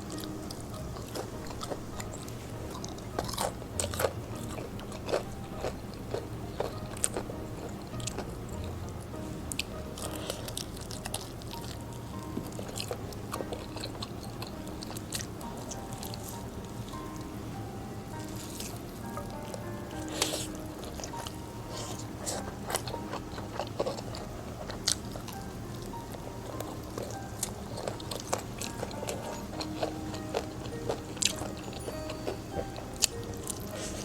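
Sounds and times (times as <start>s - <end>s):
crunching fried chicken: 0.0s - 17.3s, 18.1s - 34.0s.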